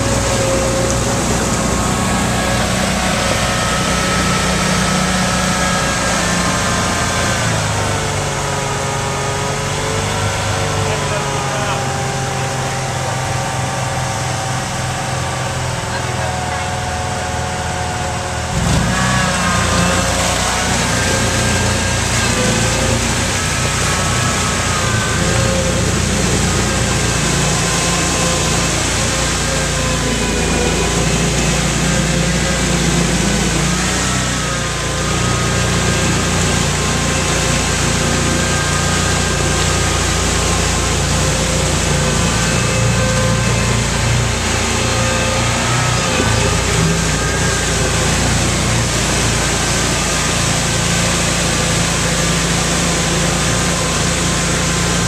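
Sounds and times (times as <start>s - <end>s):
driving through muddy water: 0.0s - 55.0s
vehicle engine under load: 0.0s - 55.0s.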